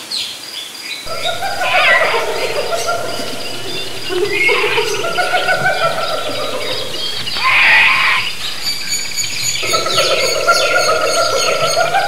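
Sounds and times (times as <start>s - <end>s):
high animal chirps: 1.1s - 12.0s
steady animal calls: 1.1s - 12.0s.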